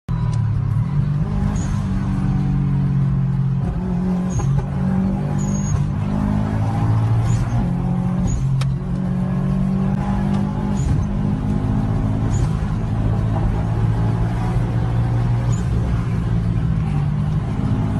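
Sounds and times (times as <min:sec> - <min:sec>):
car engine under load: 0:00.1 - 0:17.9.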